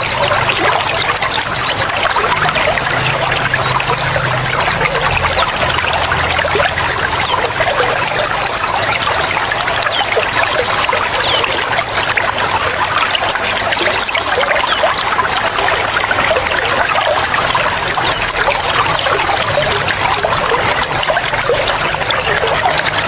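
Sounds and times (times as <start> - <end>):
water splashing and trickling: 0.0 - 23.0.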